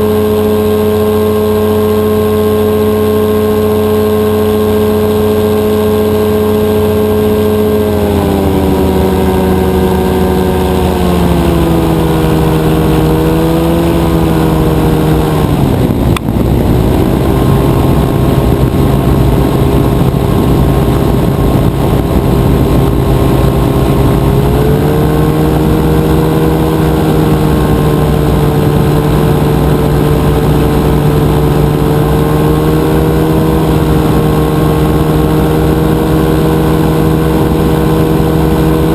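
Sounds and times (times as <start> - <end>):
two-stroke engine running: 0.0 - 38.9.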